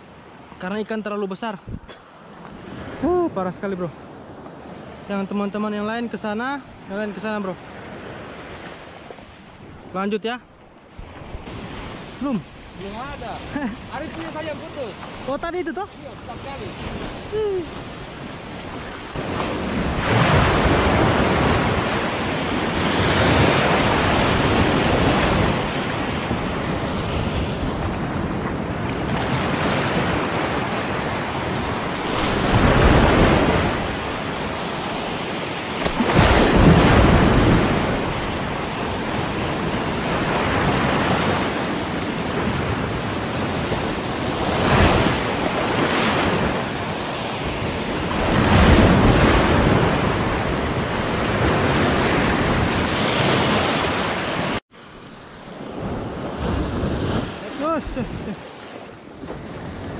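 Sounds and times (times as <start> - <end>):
surf breaking on beach: 10.9 - 59.9.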